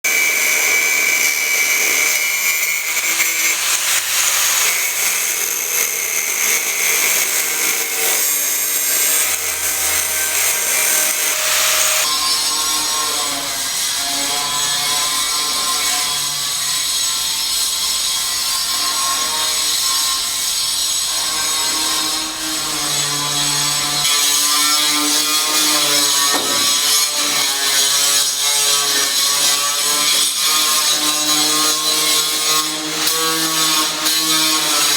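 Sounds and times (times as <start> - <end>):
power tools sawing and grinding: 0.0 - 34.9.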